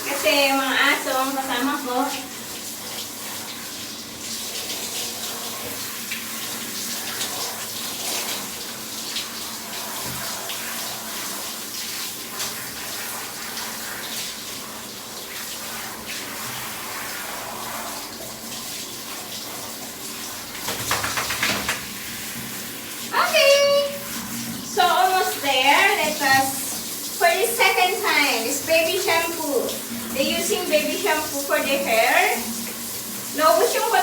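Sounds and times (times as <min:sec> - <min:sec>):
shower water running: 0:00.0 - 0:34.0.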